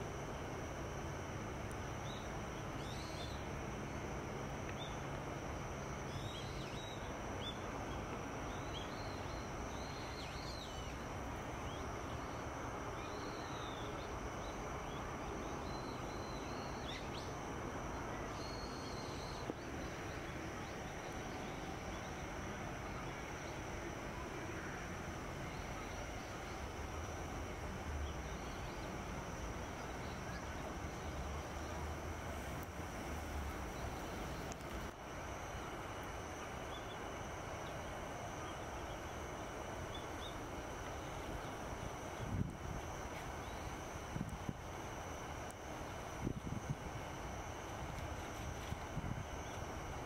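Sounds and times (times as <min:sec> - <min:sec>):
steady background hiss: 0:00.0 - 0:50.0.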